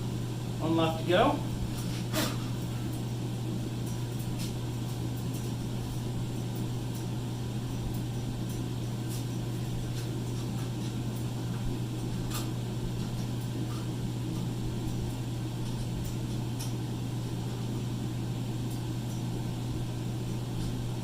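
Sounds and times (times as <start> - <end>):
fan humming: 0.0 - 21.0.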